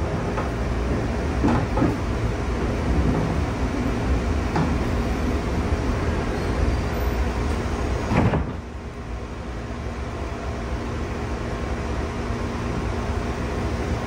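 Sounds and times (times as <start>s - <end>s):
train interior running rumble: 0.0s - 14.0s.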